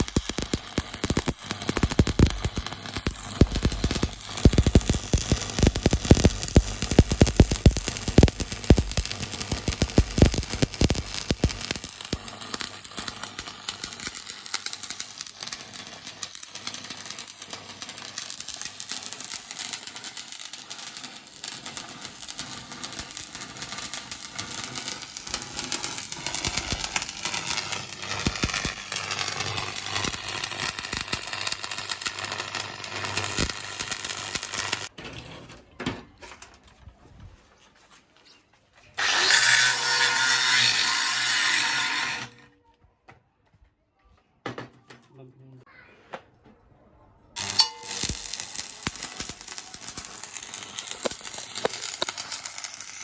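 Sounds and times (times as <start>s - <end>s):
welding arc crackling: 0.0s - 34.9s, 39.0s - 42.3s, 47.4s - 53.0s.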